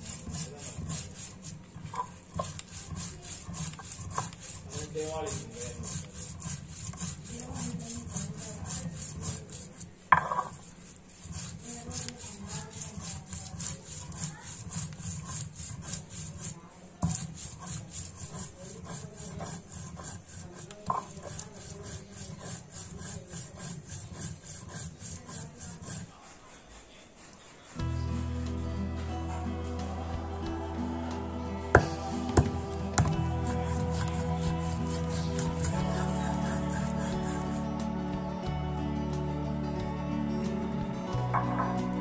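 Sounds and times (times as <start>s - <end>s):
stone grinding on stone slab: 0.0s - 26.1s, 29.6s - 37.9s.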